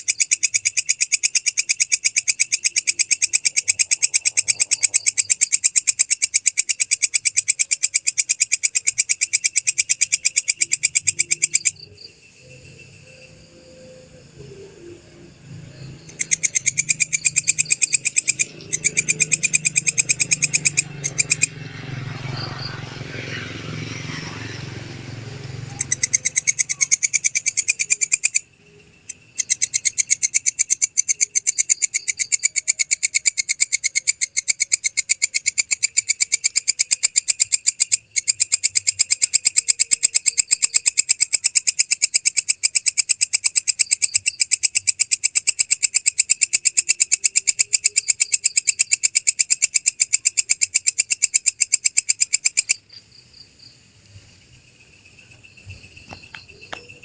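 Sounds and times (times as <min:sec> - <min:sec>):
insect clicking chirps: 0:00.0 - 0:14.0, 0:15.8 - 0:21.6, 0:25.5 - 0:53.1, 0:55.2 - 0:57.0.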